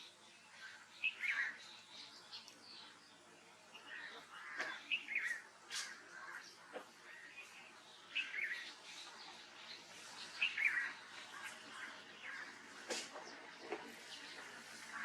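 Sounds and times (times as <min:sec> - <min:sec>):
small birds warbling: 0:00.0 - 0:15.0.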